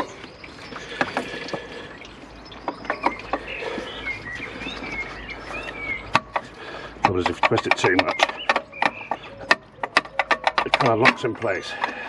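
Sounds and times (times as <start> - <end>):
birds chirping: 0.0 - 12.0
clicks and knocks of water pump: 0.0 - 12.0.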